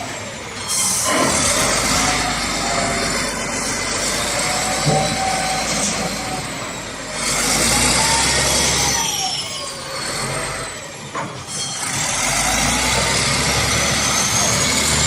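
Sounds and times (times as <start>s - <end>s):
wheel loader diesel engine: 0.0s - 15.0s.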